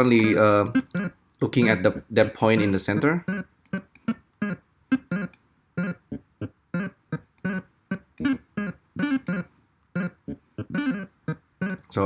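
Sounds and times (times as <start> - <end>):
synth blips: 0.0 - 6.0, 6.8 - 12.0.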